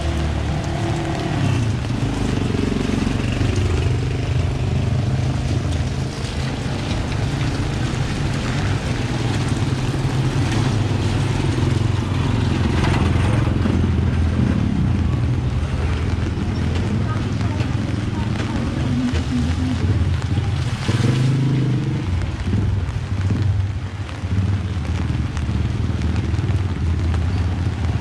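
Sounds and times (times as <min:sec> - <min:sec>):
vehicle engines running: 0:00.0 - 0:28.0.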